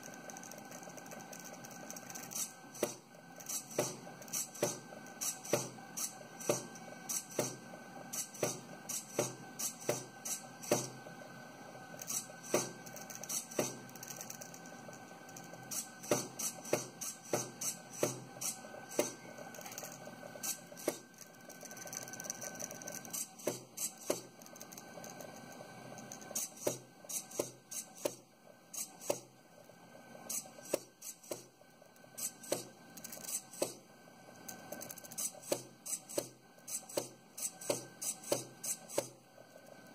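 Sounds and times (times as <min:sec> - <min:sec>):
sharp mechanical clicks: 0:00.0 - 0:11.0, 0:12.0 - 0:29.3, 0:30.3 - 0:33.8, 0:34.4 - 0:39.8.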